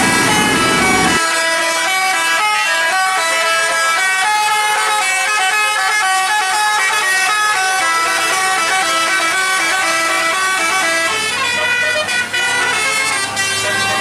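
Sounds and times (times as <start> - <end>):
bus musical air horn: 0.0 - 14.0.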